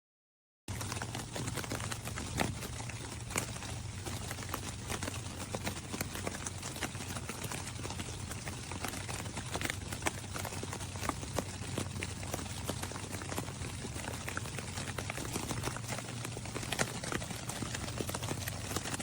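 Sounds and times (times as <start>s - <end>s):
light tapping and pattering: 0.7s - 19.0s
steady low hum: 0.7s - 19.0s.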